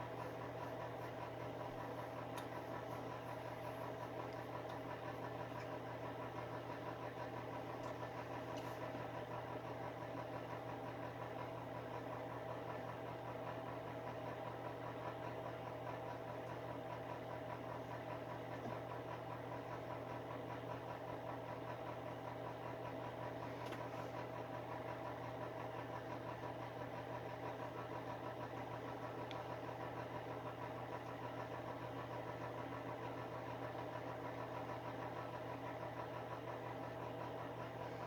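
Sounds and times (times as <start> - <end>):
heater fan humming: 0.0 - 38.0.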